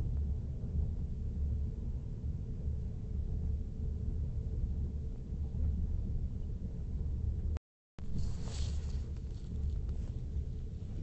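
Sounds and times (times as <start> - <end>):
train rumble from inside carriage: 0.0 - 11.0.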